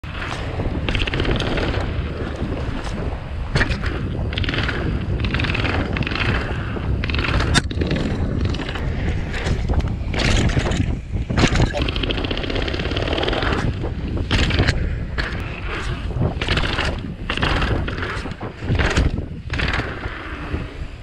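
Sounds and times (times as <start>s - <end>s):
rapid ticking: 0.0s - 2.2s, 3.6s - 20.2s
bike tyre rumble: 0.0s - 21.0s
wind buffeting the microphone: 0.0s - 21.0s.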